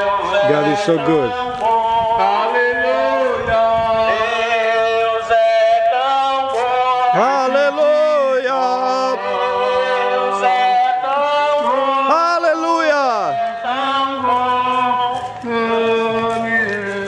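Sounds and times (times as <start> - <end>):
man singing long held notes: 0.0 - 17.0.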